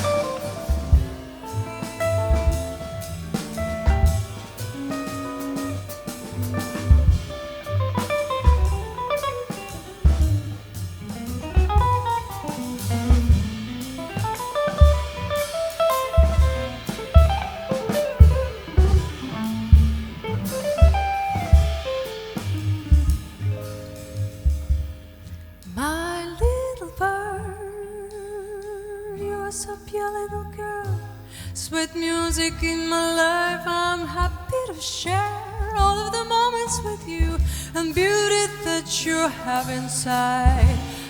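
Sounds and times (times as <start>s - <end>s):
drum kit: 0.0s - 27.0s, 32.2s - 41.0s
melodic jazz solo: 0.0s - 28.2s, 32.2s - 41.0s
bass: 0.0s - 41.0s.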